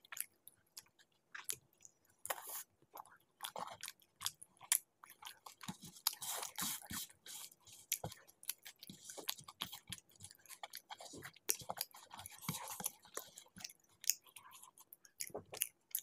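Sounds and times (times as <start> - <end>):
close chewing with mouth smacks: 0.0 - 16.0.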